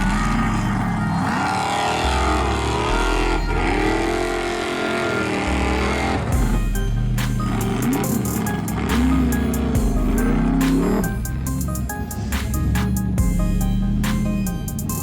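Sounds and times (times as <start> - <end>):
background music bass line: 0.0 - 15.0
car engine revving: 0.0 - 15.0.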